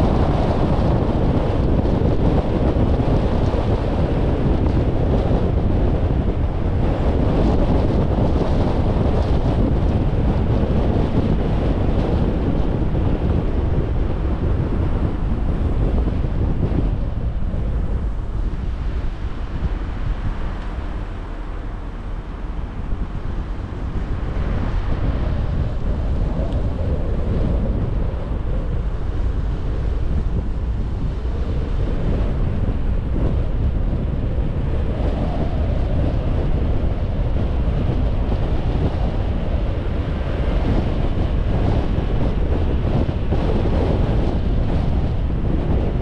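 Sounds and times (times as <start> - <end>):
tyre and road noise: 0.0 - 46.0
wind rumbling on microphone: 0.0 - 46.0.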